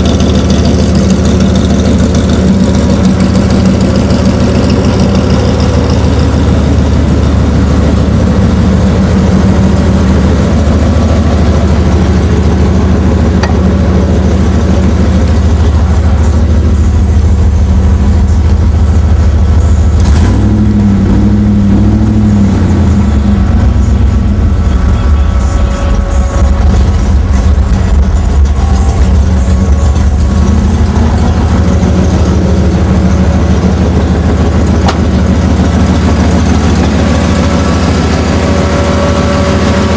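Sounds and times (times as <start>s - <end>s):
engine revving: 0.0s - 39.9s
vee eight engine idling loudly: 0.0s - 39.9s.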